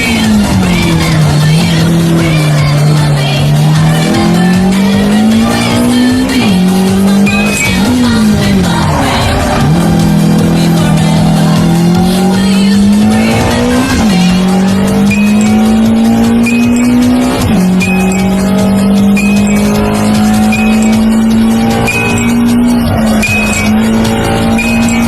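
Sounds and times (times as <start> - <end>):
car engine accelerating through gears: 0.0 - 25.0
music: 0.0 - 25.0.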